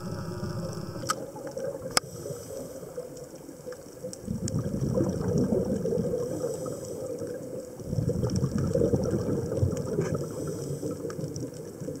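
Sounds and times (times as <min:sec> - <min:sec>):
underwater bubbling and gurgling: 0:00.0 - 0:12.0.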